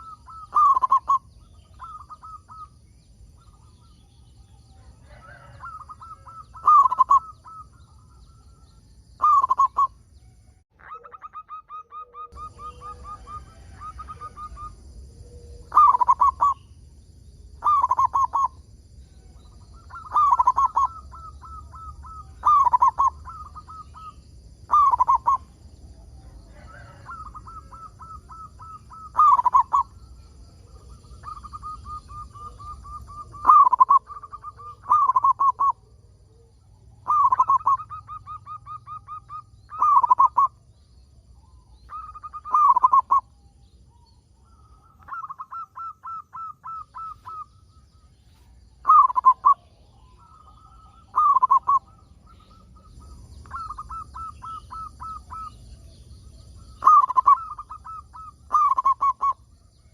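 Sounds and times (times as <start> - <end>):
dove cooing: 0.0 - 10.0, 10.8 - 16.8, 17.4 - 40.8, 41.4 - 59.9.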